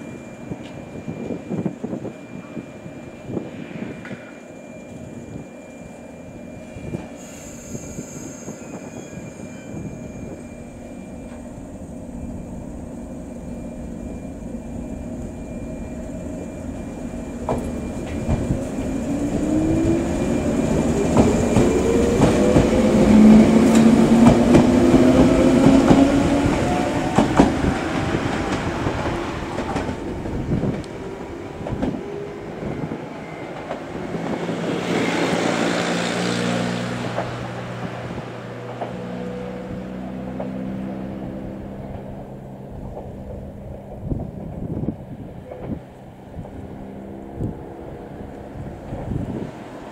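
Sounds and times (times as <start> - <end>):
electric train motors humming: 0.0 - 49.9.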